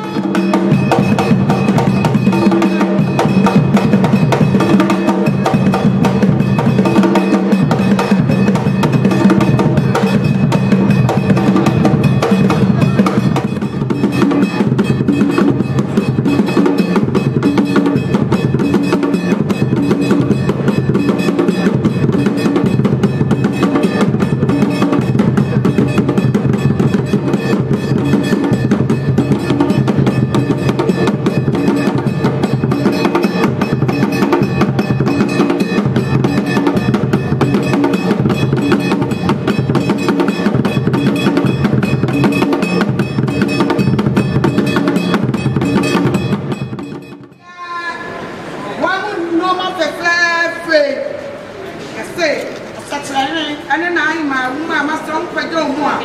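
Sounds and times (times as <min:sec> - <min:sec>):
drum-led music: 0:00.0 - 0:47.4
sharp clicking percussion: 0:00.0 - 0:47.4.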